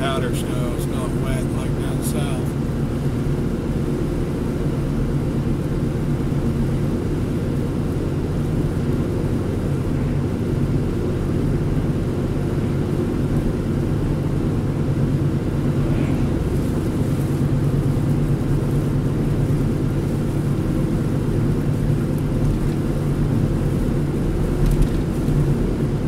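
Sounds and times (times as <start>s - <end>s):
car driving heard from inside: 0.0s - 26.0s.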